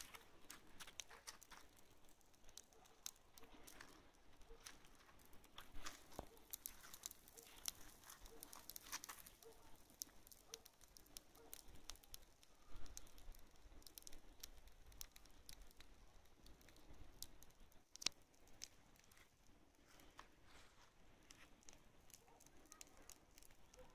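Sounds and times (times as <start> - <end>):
hay crackling as it burns: 0.0 - 23.9.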